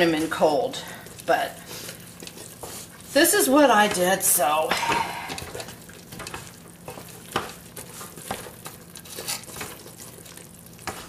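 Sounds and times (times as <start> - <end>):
boiling candy sizzling: 0.0 - 11.0
spoon stirring thick syrup: 0.1 - 11.0.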